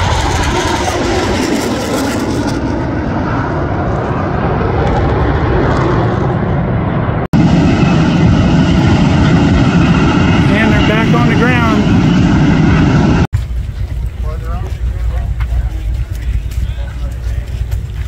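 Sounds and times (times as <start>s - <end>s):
jet engines roaring overhead: 0.0s - 18.0s.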